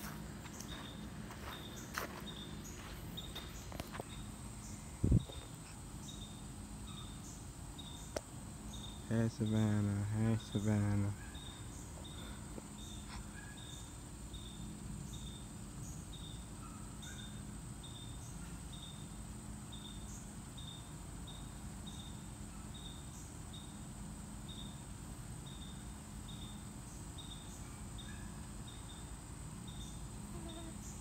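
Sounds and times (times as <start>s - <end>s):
insects chirping and buzzing: 0.0s - 31.0s.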